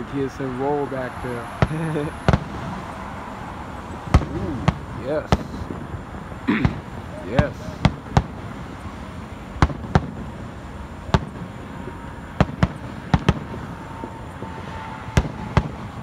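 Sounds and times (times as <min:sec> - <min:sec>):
firework shells bursting: 0:01.5 - 0:16.0.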